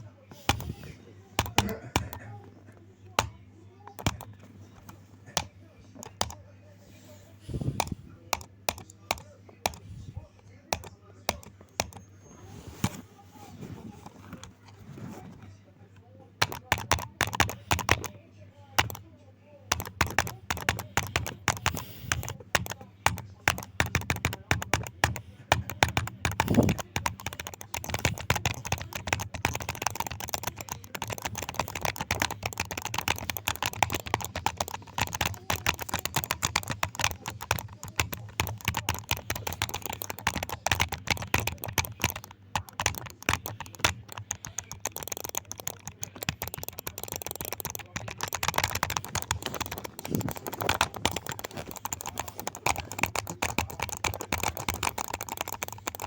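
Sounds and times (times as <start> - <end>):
fast typing on a keyboard: 0.0 - 2.4, 3.2 - 6.4, 7.4 - 10.0, 10.7 - 12.1, 16.4 - 18.2, 18.8 - 19.1, 19.7 - 56.0.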